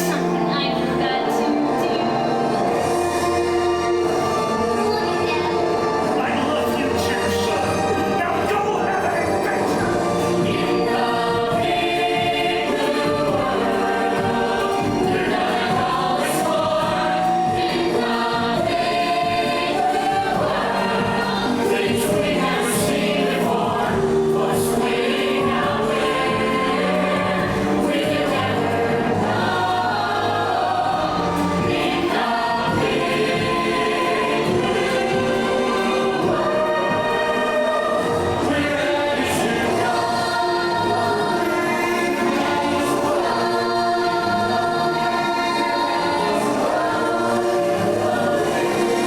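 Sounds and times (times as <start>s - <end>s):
choir singing with orchestra: 0.0s - 49.0s.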